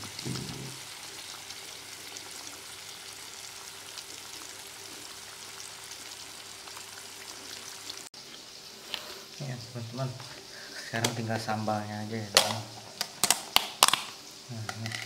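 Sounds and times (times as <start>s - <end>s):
tofu deep-frying in oil: 0.0s - 15.0s.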